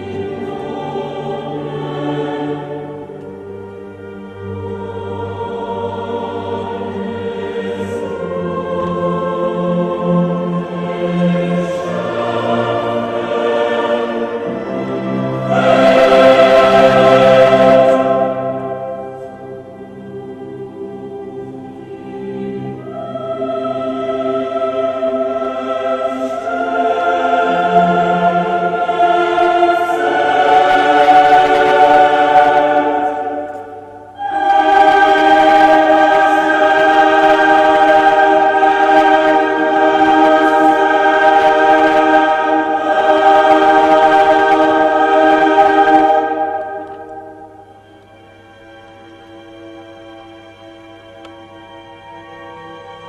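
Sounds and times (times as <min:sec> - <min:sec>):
choir singing long chords: 0:00.0 - 0:53.0.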